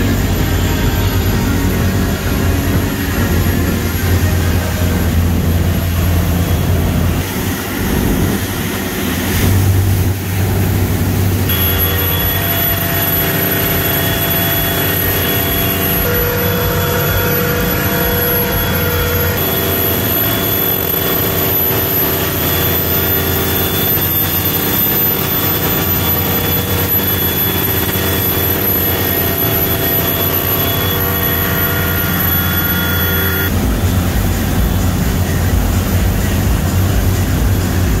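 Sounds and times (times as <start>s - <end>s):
wind and churning wake: 0.0s - 31.4s, 33.5s - 38.0s
high whine: 0.0s - 38.0s
marine diesel engine running: 0.0s - 38.0s.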